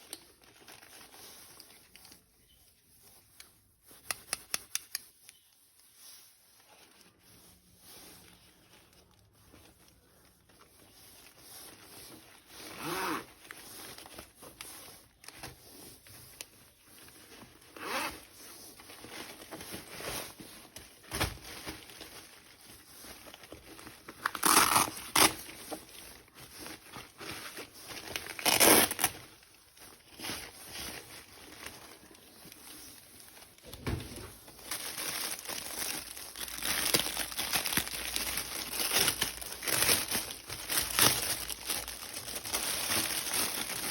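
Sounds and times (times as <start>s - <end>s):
packaging rustling and tearing: 0.0s - 43.9s.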